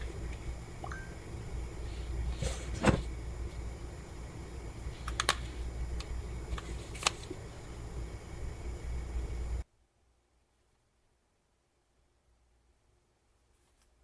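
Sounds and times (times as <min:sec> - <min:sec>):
low steady hum: 0:00.0 - 0:11.5.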